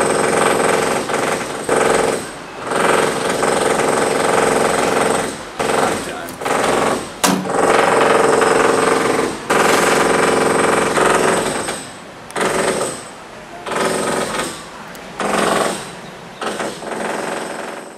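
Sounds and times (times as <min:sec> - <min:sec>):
jackhammer pounding: 0:00.0 - 0:17.9.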